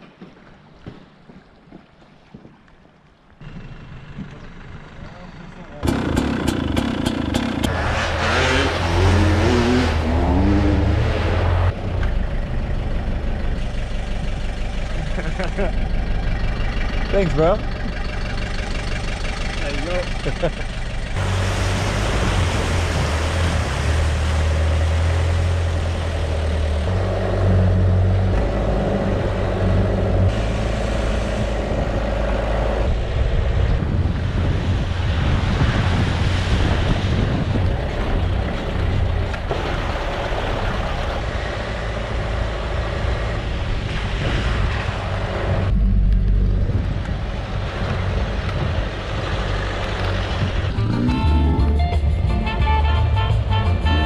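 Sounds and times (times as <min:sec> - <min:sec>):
vehicle engine hum: 0:03.0 - 0:54.0.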